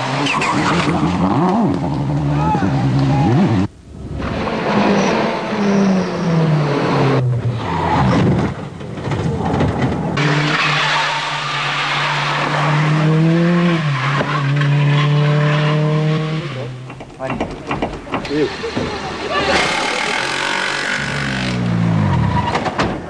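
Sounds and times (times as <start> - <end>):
rally car engines revving: 0.0 - 23.0
tyres skidding: 0.0 - 23.0.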